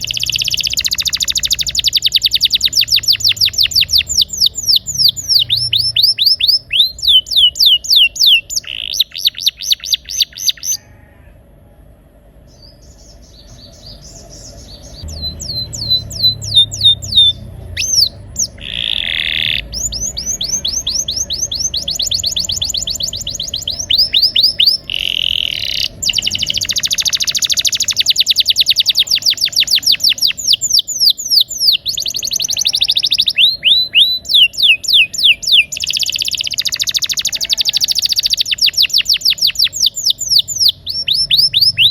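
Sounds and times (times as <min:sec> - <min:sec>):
canary singing in rolling trills: 0:00.0 - 0:11.1, 0:11.8 - 0:41.9.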